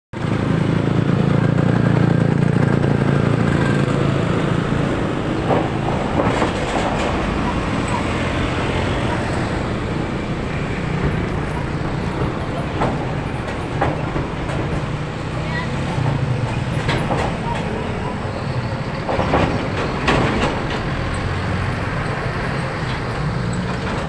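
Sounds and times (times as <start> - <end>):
diesel trucks passing: 0.2 - 24.0.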